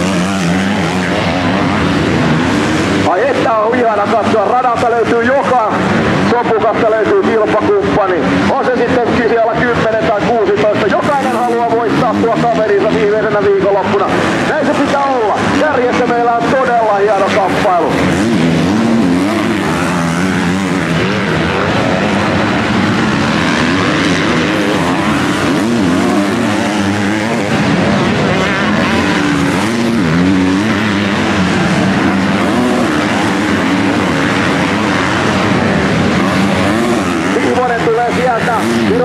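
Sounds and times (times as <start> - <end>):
motocross bike engines racing: 0.0 - 39.0.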